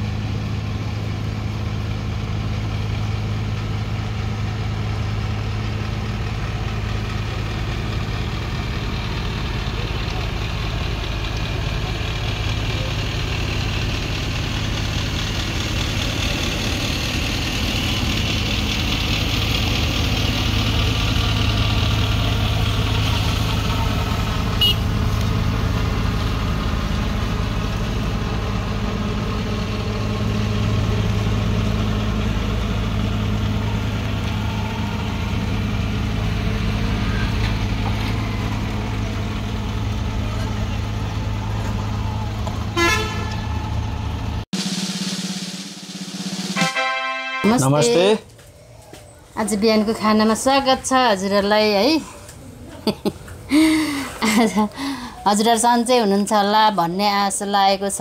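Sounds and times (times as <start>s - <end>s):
diesel engine idling: 0.0s - 44.5s, 47.0s - 58.0s.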